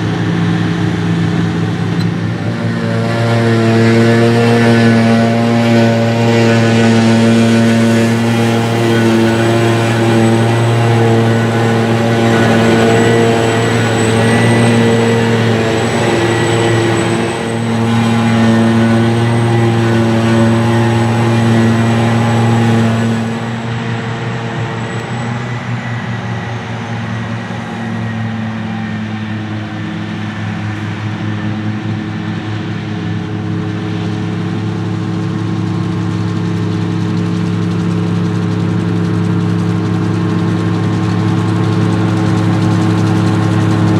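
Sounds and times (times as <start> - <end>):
thin high whine: 0.0 - 35.2
diesel machinery engine drone: 0.0 - 43.9.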